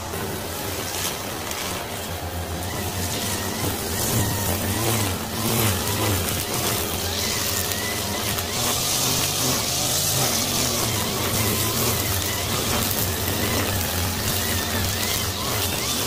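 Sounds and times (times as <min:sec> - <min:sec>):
grass trimmer running: 0:00.0 - 0:16.0.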